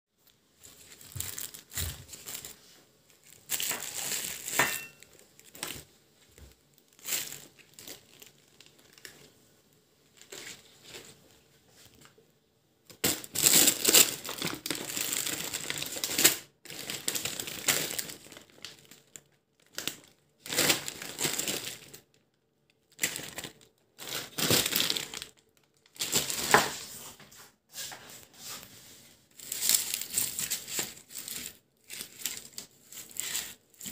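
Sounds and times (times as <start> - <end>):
plastic bags crinkling: 0.2 - 9.4, 10.0 - 11.3, 12.9 - 26.8, 29.3 - 33.9.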